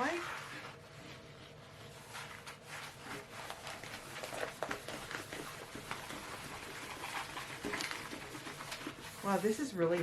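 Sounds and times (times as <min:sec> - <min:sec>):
canvas crinkling and rustling: 0:00.0 - 0:10.0.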